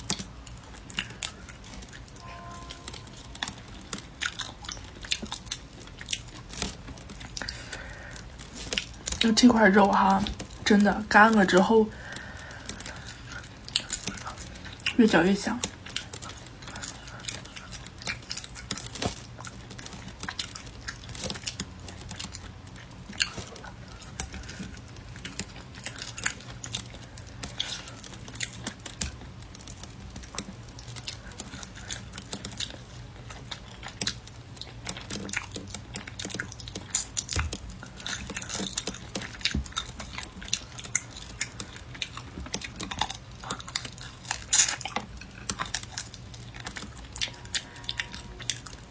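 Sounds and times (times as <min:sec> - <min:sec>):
chewing and biting meat: 0:00.0 - 0:48.9
mouth clicks and crackles: 0:00.0 - 0:48.9.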